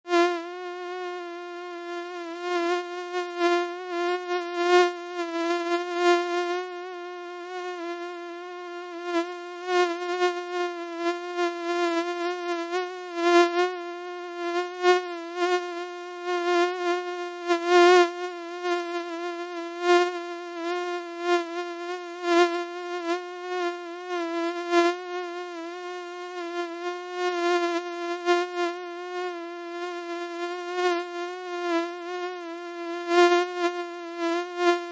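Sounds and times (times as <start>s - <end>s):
mosquito whining: 0.1s - 34.9s.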